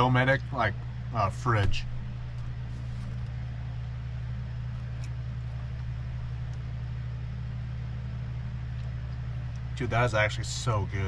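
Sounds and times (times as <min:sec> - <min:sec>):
steady low machine hum: 0:00.0 - 0:11.0.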